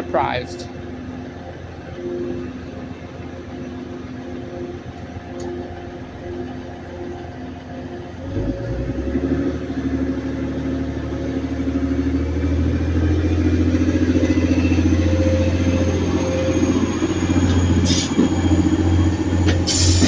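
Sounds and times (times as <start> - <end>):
diesel train engines revving: 0.0 - 20.0.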